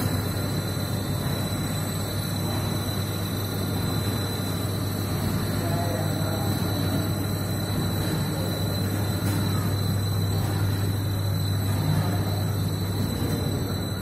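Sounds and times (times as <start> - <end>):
machine drone with high whine: 0.0 - 14.0.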